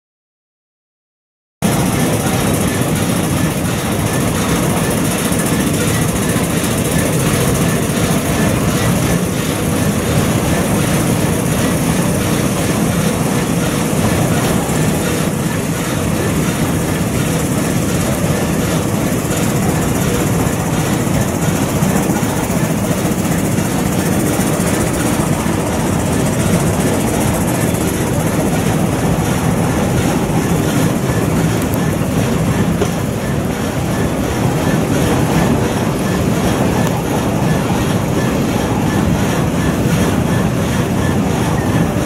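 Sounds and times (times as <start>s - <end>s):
steam engine chuffing: 1.6s - 42.0s.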